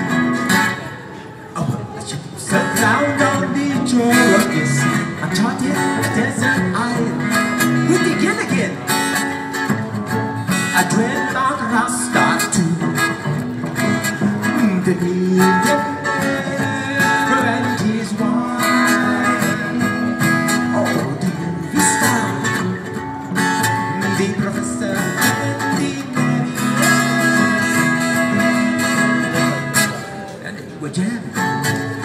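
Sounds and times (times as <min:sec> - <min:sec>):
live band playing guitar-led jam: 0:00.0 - 0:32.0.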